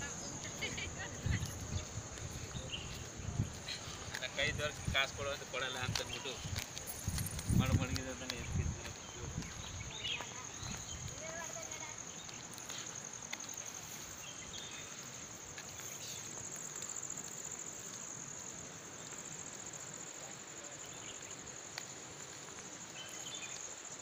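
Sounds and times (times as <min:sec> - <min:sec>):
insects trilling: 0:00.0 - 0:24.0
soft outdoor hiss: 0:00.0 - 0:24.0.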